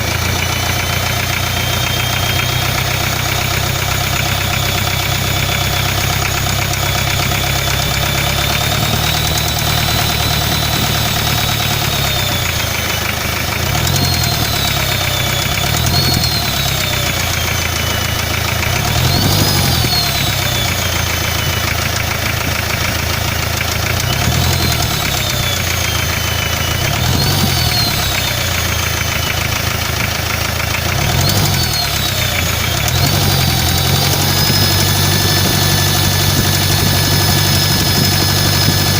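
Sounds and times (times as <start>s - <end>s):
diesel engine idling with knock: 0.0s - 38.9s
engine revving: 0.0s - 38.9s
high turbo whistle: 0.1s - 38.9s.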